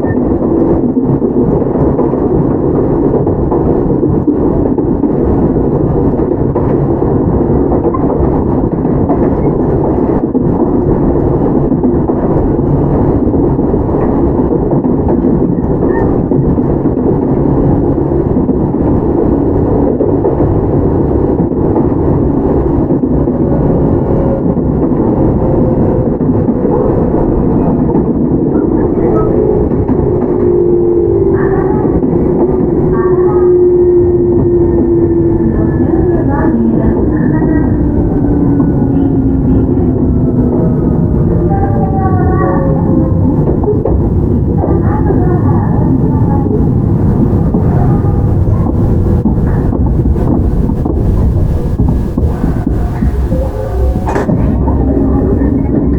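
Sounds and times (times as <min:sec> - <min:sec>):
electric train wheels rumbling on rail: 0:00.0 - 0:55.9.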